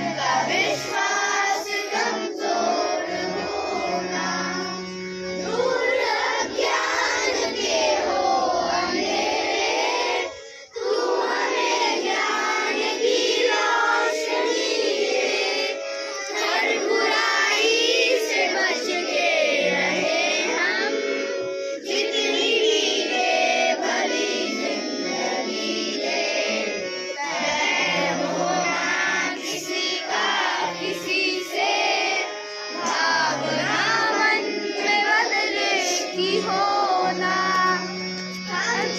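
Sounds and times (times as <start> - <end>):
children singing: 0.0 - 38.9
instrumental music: 0.0 - 38.9.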